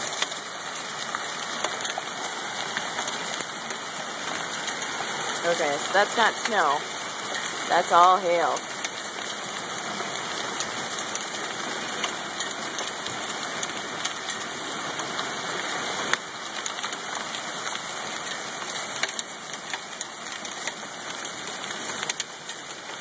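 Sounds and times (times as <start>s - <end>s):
hail falling hard: 0.0s - 23.0s
hailstones ticking on railings: 0.0s - 23.0s.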